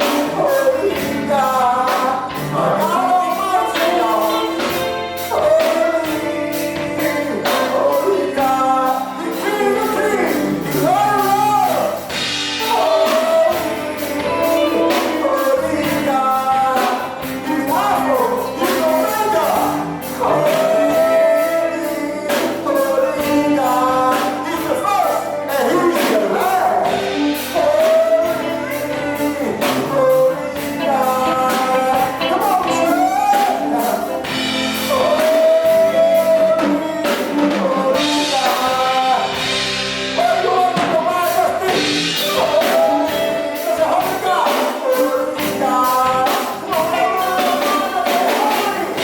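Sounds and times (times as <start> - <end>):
gospel singing with band: 0.0 - 49.0.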